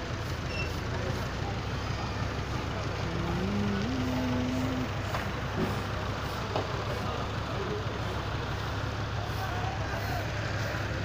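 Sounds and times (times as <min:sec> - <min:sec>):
busy yard noise: 0:00.0 - 0:11.0
low engine rumble: 0:00.0 - 0:11.0.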